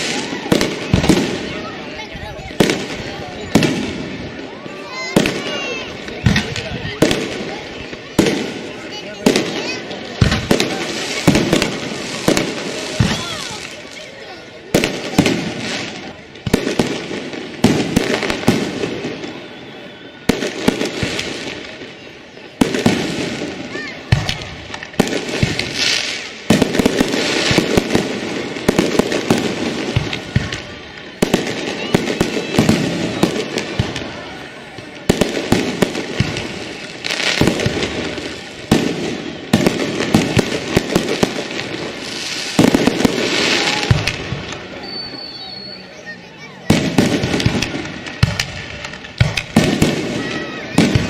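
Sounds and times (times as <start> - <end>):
fireworks bangs: 0.0 - 51.0
fireworks crackle: 0.0 - 51.0.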